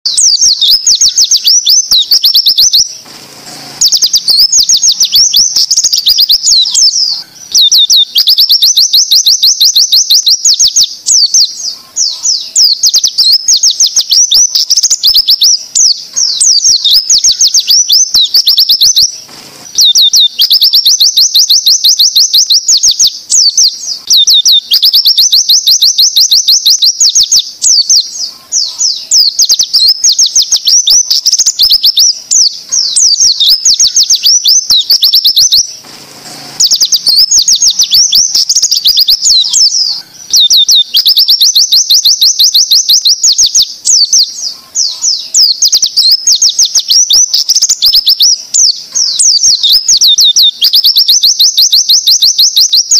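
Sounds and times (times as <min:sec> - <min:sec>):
bird song rapid high notes: 0:00.0 - 0:52.9.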